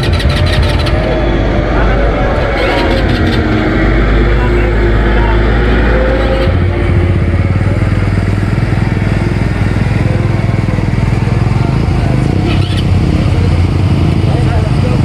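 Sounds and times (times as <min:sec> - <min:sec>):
atv engine rumbling: 0:00.0 - 0:15.0.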